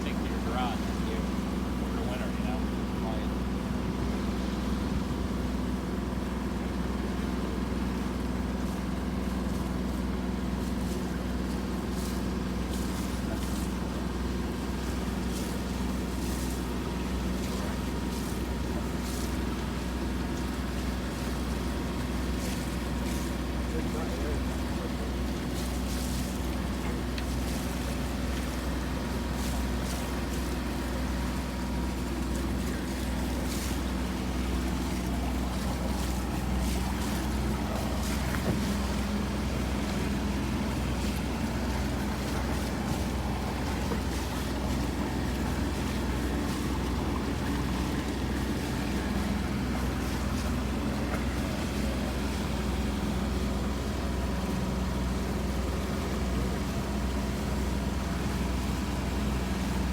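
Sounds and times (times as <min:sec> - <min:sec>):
boat engine droning: 0:00.0 - 0:59.9
water noise: 0:00.0 - 0:59.9
wind: 0:00.0 - 0:59.9.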